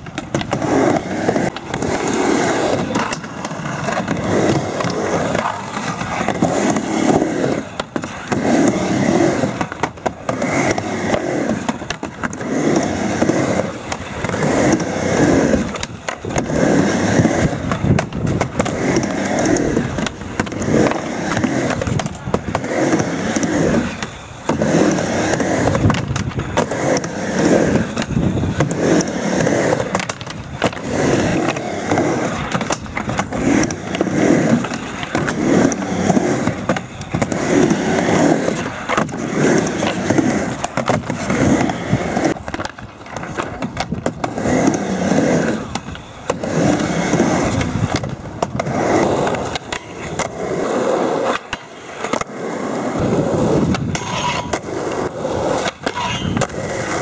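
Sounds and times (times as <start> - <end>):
skateboard tail clacks: 0.0 - 57.0
skateboard wheels rolling: 0.0 - 57.0.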